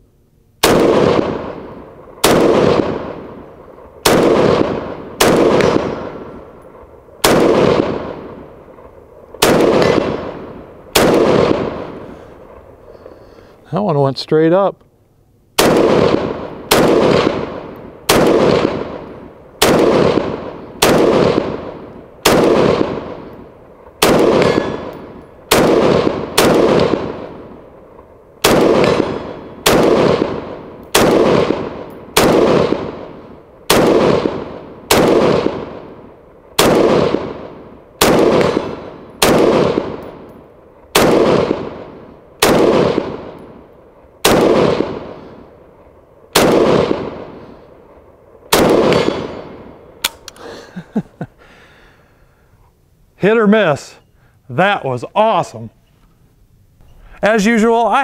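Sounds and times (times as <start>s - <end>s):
gunshots with long echo: 0.6s - 14.7s, 15.5s - 52.1s.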